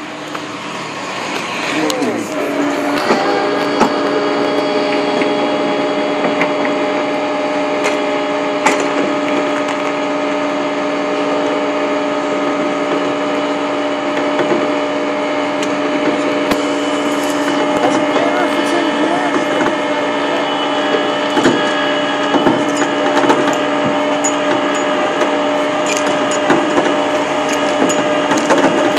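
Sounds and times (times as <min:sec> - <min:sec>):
truck engine humming: 0:00.0 - 0:28.9.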